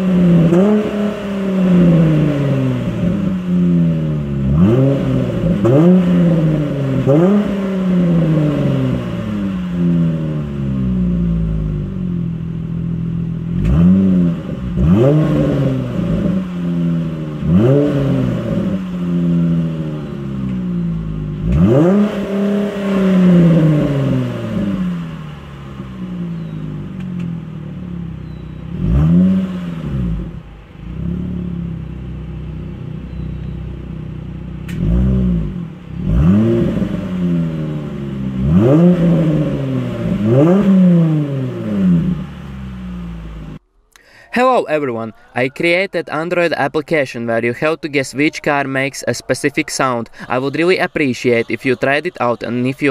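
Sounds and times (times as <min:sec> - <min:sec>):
rotary engine revving: 0:00.0 - 0:43.6.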